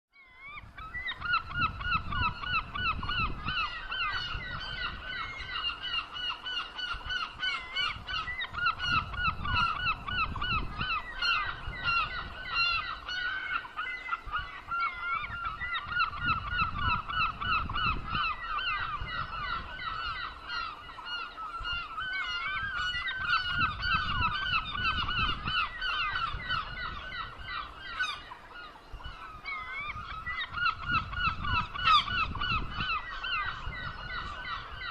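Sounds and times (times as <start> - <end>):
seagulls calling: 0.2 - 34.9.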